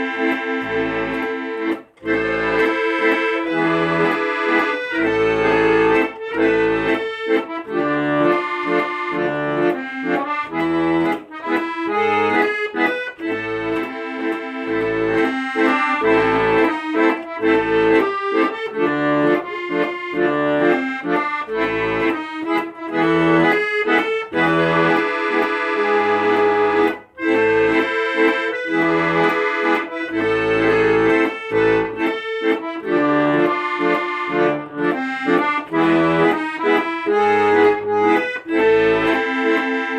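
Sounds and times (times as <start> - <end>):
accordion playing a tune: 0.0 - 39.9.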